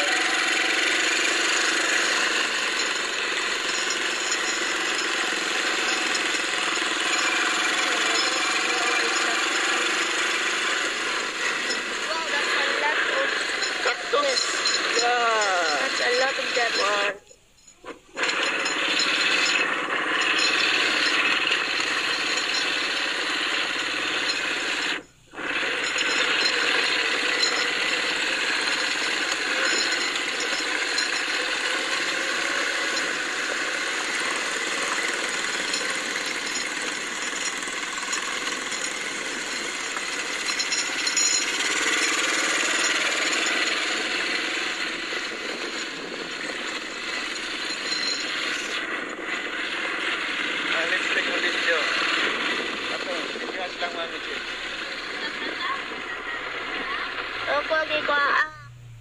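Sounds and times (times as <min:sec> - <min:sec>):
atv engine running: 0:00.0 - 0:17.0, 0:18.2 - 0:59.0.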